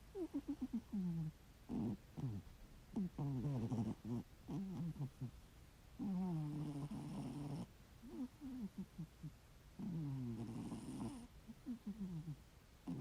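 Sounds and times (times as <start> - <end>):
cat snoring: 0.1 - 5.3, 6.0 - 13.0.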